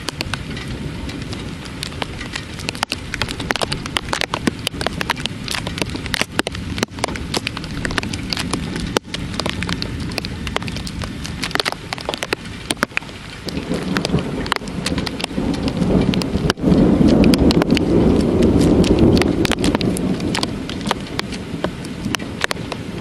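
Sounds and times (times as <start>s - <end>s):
rain hissing: 0.0s - 23.0s
raindrops ticking: 0.0s - 23.0s
thunder rumble: 0.0s - 23.0s.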